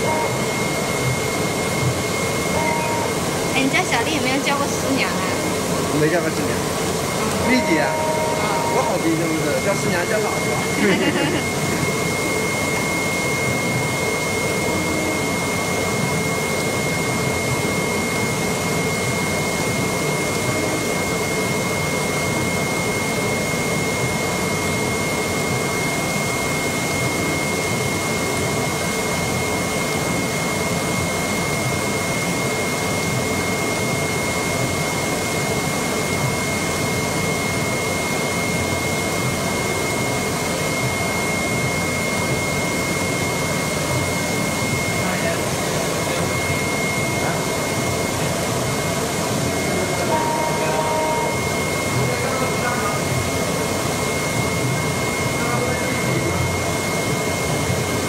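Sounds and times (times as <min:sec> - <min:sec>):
cutting machine running: 0:00.0 - 0:58.0
high-pitched machine whine: 0:00.0 - 0:58.0.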